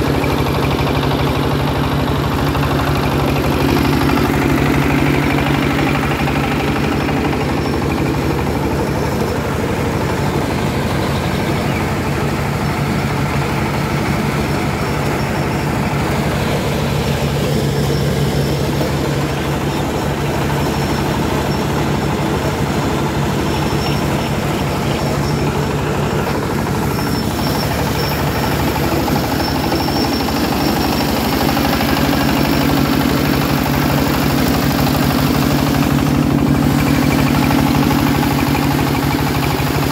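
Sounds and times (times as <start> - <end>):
corn sheller machine running: 0.0 - 39.9.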